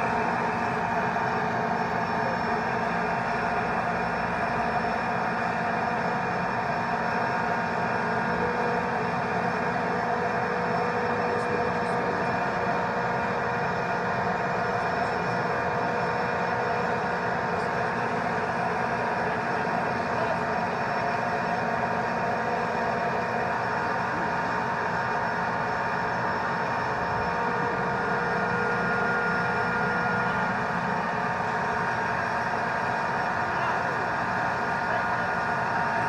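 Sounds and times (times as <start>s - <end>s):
turbine engine whine and rumble: 0.0s - 36.0s.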